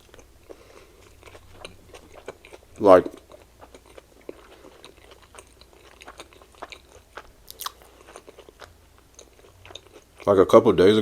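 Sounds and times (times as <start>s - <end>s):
man chewing with wet smacking: 0.0s - 10.4s.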